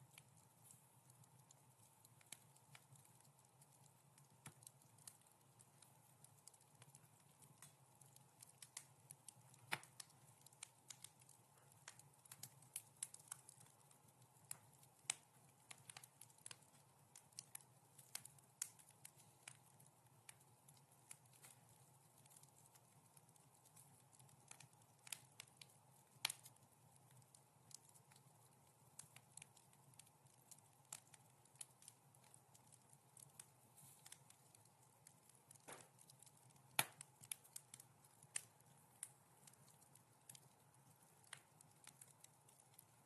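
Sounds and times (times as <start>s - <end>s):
faint steady hiss: 0.0s - 43.0s
wood fire crackling: 0.0s - 43.0s.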